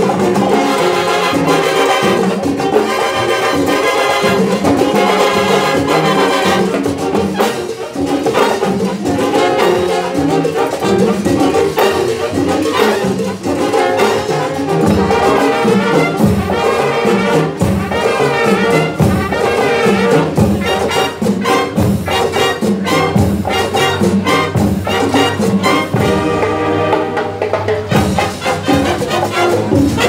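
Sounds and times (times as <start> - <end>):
drums beating: 0.0 - 30.0
trumpets and trombones: 0.0 - 30.0.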